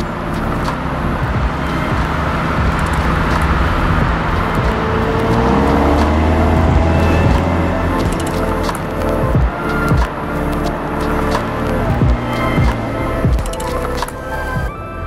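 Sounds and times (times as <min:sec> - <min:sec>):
car engine accelerating: 0:00.0 - 0:14.8
road noise: 0:00.0 - 0:15.0.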